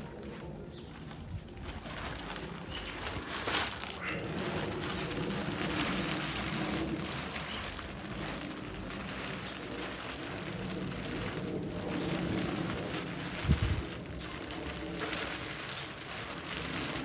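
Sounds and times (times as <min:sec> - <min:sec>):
plastic sheeting crinkling: 0:00.0 - 0:17.0.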